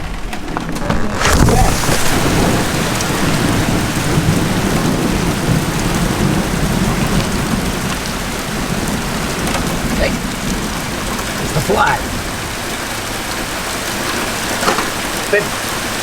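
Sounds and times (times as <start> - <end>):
thunder rumbling: 0.0 - 15.3
heavy rain pouring: 0.0 - 16.0.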